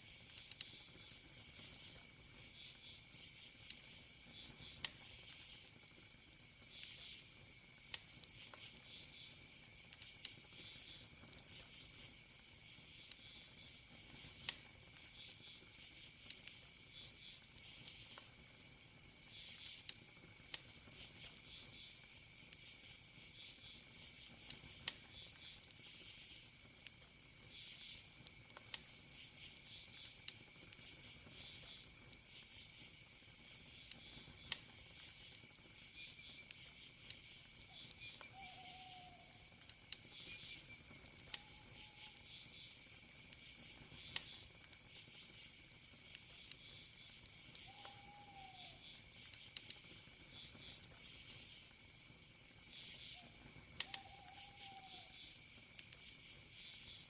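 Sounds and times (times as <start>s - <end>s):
cricket trill: 0.0s - 57.0s
insect chirping: 0.0s - 57.0s
wood fire crackling: 0.0s - 57.0s.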